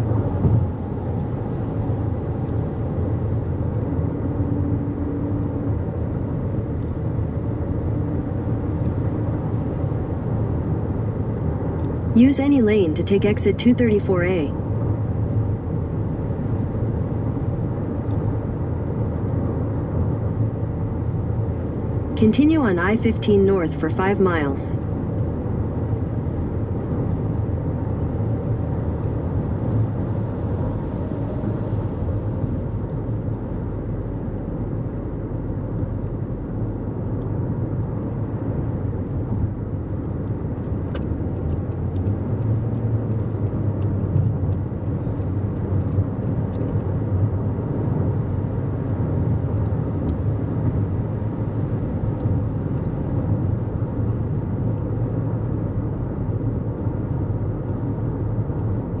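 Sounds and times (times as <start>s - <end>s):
car road noise at speed: 0.0s - 59.0s.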